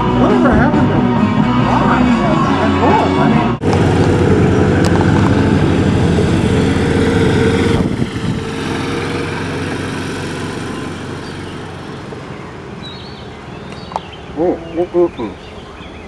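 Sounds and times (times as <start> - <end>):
golf cart engine running: 0.0 - 16.0.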